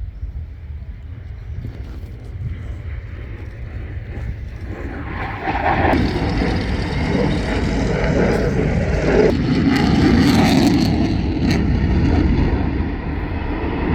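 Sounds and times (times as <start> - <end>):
piston aero engines droning: 0.0 - 13.9.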